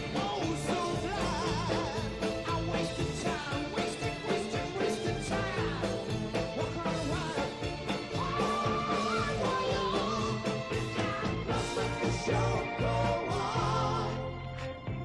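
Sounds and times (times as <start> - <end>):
man singing: 0.0 - 14.3
rock band playing: 0.0 - 15.0.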